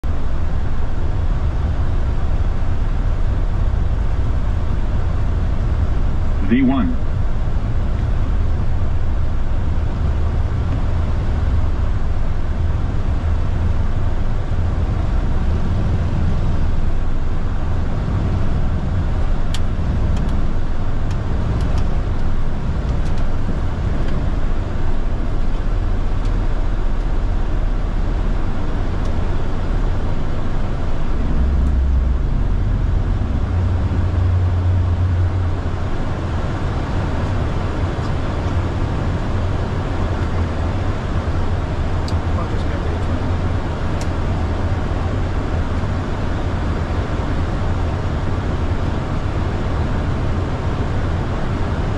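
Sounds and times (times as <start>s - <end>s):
airliner flight deck rumble: 0.0s - 51.9s.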